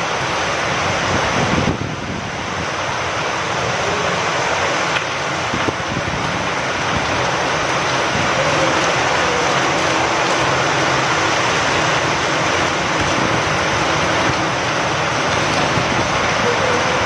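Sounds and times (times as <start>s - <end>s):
heavy rain with wind: 0.0s - 17.0s.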